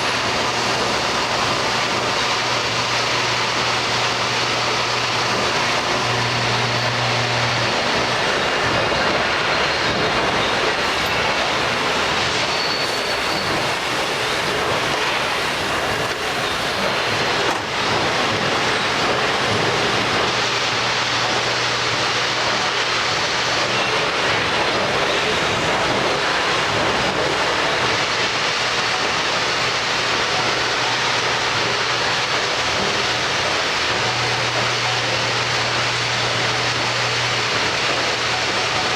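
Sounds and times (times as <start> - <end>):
lathe machining noise: 0.0 - 38.9.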